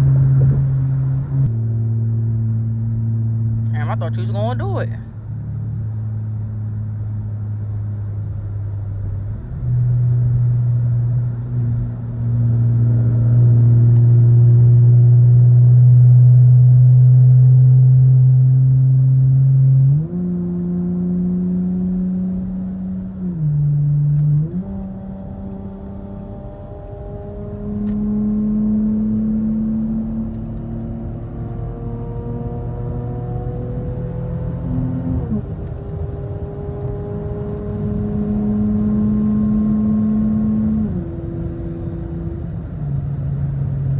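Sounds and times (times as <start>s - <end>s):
car engine and exhaust: 0.0s - 43.9s.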